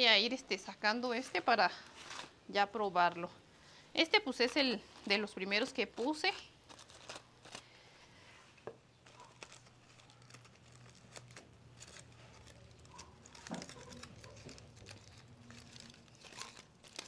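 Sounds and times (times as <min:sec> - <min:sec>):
aluminium foil crinkling: 0:00.3 - 0:03.4, 0:04.0 - 0:17.0.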